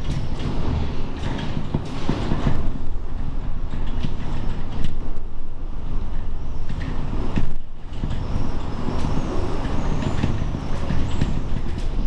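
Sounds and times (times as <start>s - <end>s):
strong wind buffeting building: 0.0s - 12.0s.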